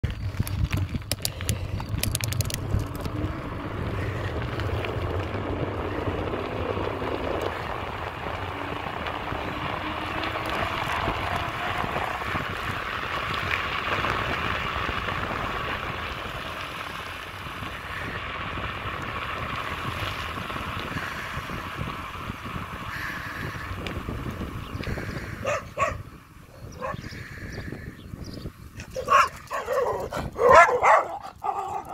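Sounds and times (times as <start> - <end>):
tyre noise on asphalt: 0.0 - 31.9
wind buffeting microphone: 0.0 - 31.9.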